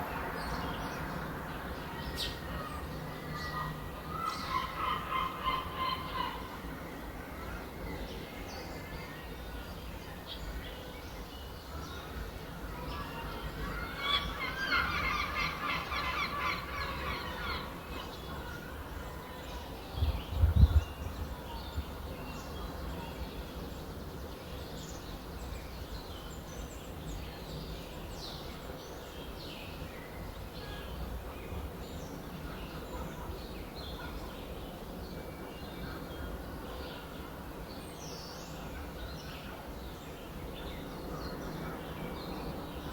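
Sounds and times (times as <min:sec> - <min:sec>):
low outdoor hiss: 0:00.0 - 0:42.9
wild birds calling and chirping: 0:00.0 - 0:42.9.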